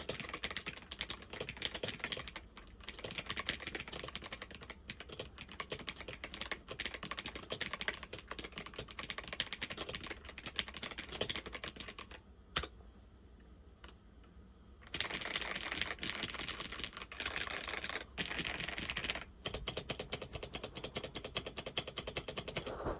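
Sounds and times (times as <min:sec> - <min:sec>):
fast typing on keyboard: 0:00.0 - 0:12.7, 0:14.8 - 0:22.7.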